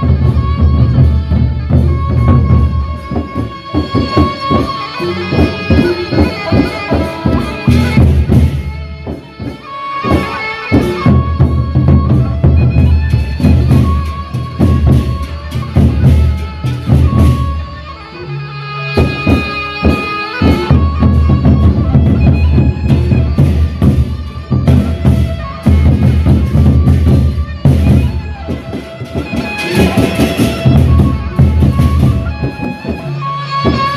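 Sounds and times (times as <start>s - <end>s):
barrel drums beaten fast: 0.0s - 17.6s, 19.0s - 33.9s
held high tone: 0.0s - 33.9s.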